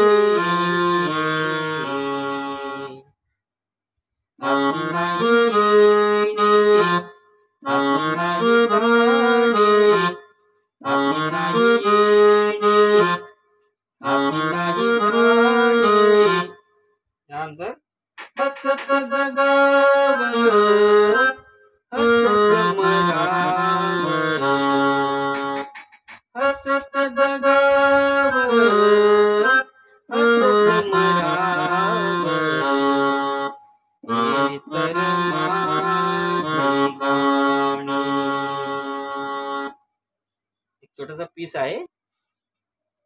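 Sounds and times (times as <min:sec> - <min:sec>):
electronic keyboard melody: 0:00.0 - 0:03.4, 0:04.2 - 0:41.2.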